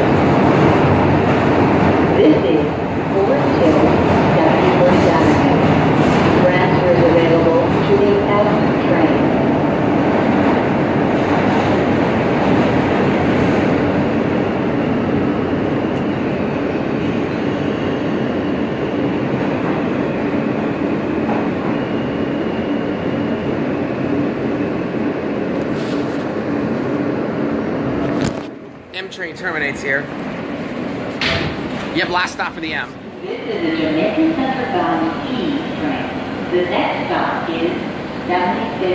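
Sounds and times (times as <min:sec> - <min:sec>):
subway wheel and rail noise: 0:00.0 - 0:38.9.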